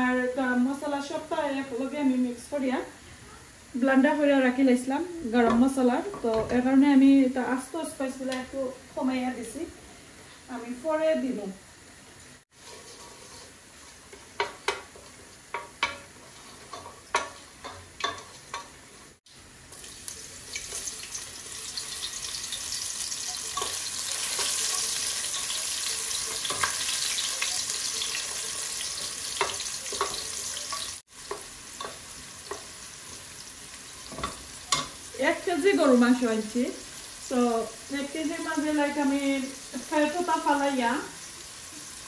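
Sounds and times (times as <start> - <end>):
onions sizzling in hot oil: 0.0 - 42.0.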